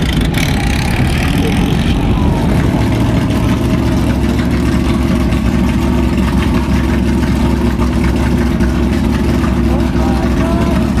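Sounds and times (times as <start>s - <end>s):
racing car engine idling: 0.0s - 11.0s.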